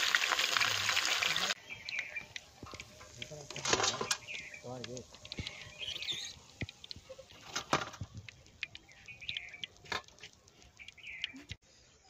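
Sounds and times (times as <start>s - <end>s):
light clicks and ticks: 1.8s - 11.6s.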